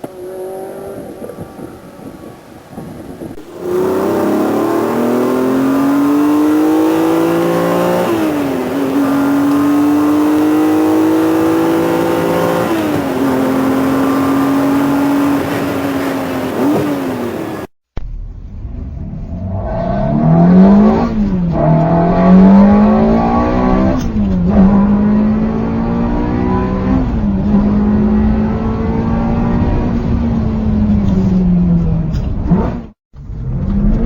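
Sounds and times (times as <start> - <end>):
car engine revving and accelerating: 0.0 - 17.7, 19.0 - 34.0.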